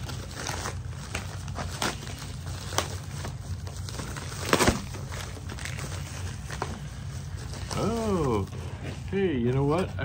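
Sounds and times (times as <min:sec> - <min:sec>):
packaging crinkling: 0:00.0 - 0:10.0
steady low hum: 0:00.0 - 0:10.0.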